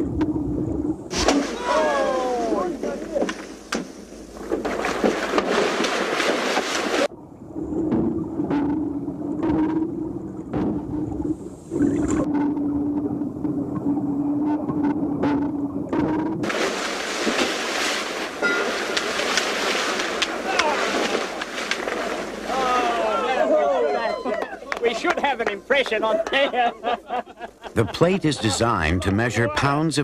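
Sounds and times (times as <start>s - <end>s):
water splashing and churning: 0.0s - 26.1s.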